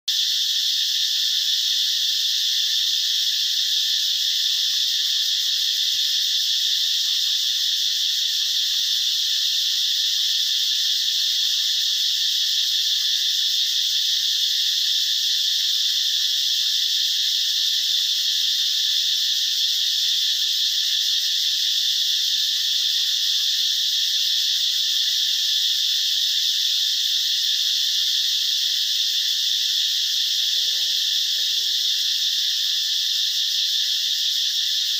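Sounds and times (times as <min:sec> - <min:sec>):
chorus of calling insects: 0:00.1 - 0:34.9.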